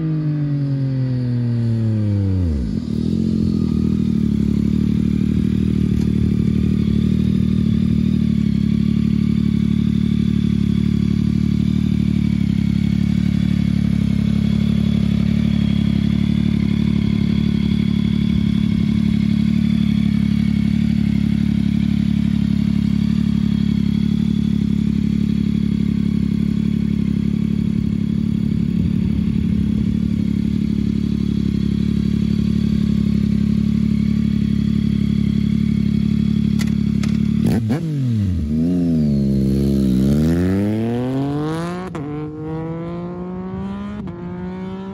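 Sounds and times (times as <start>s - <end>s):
motorcycle engine idling: 0.0s - 41.1s.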